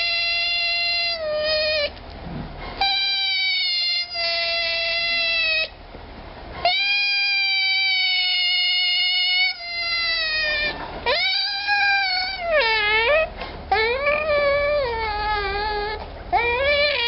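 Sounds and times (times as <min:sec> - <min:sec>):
otter pup whistling calls: 0:00.0 - 0:02.0, 0:02.8 - 0:05.8, 0:06.6 - 0:17.0.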